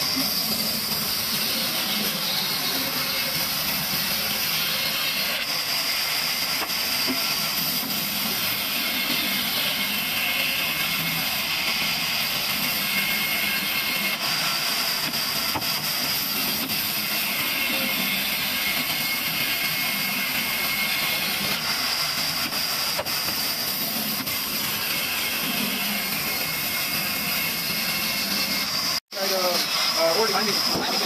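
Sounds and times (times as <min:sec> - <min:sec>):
band saw cutting timber: 0:00.0 - 0:31.0.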